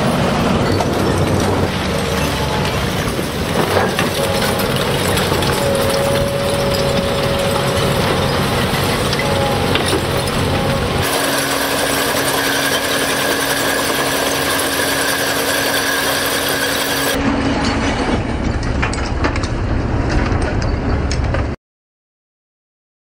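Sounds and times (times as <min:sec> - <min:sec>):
excavator heavy machinery noise: 0:00.0 - 0:21.6.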